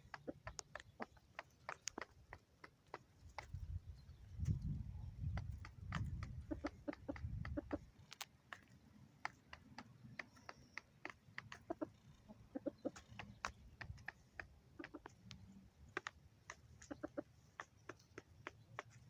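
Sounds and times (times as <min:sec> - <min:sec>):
beaks tapping on feed: 0:00.0 - 0:19.0
chickens clucking softly: 0:00.0 - 0:19.0.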